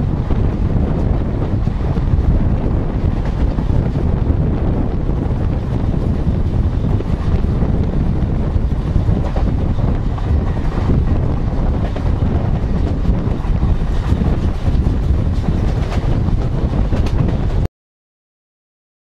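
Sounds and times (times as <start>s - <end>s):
train rumbling on rails: 0.0s - 17.7s
wind buffeting microphone: 0.0s - 17.7s.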